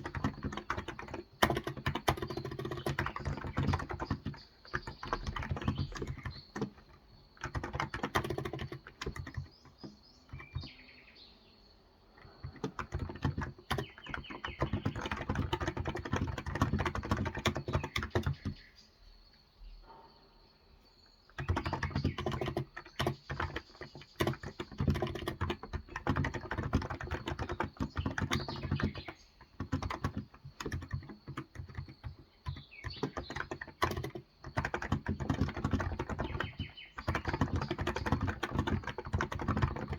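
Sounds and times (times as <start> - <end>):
soft keyboard typing: 0.0 - 11.0, 12.0 - 18.9, 21.2 - 39.9
faint birdsong: 0.0 - 39.9.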